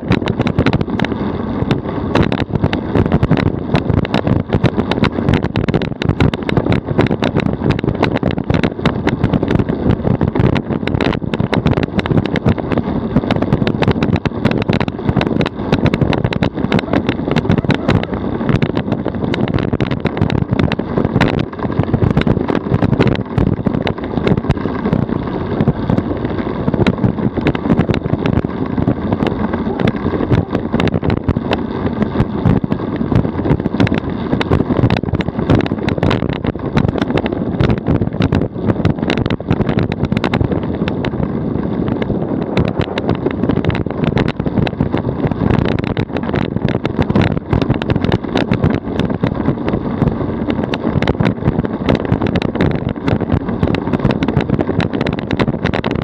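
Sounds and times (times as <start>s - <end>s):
road and tyre rumble: 0.0s - 56.0s
wind noise on microphone: 0.0s - 56.0s.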